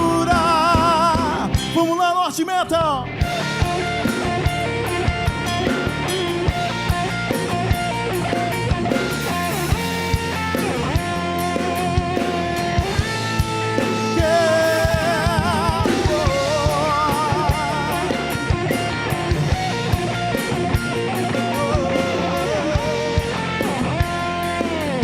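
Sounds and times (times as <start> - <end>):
bass guitar: 0.0 - 25.0
drum kit: 0.0 - 25.0
electric guitar solo: 2.4 - 25.0.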